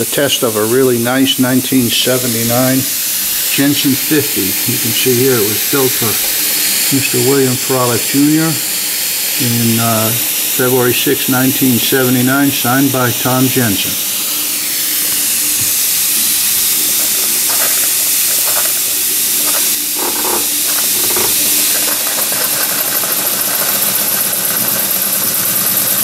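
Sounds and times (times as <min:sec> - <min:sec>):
model steam engine hissing: 0:00.0 - 0:26.0.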